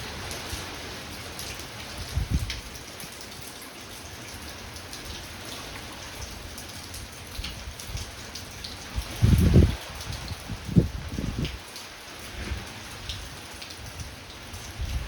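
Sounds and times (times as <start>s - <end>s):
heavy rain falling: 0.0s - 15.0s
raindrops ticking close by: 0.0s - 15.0s.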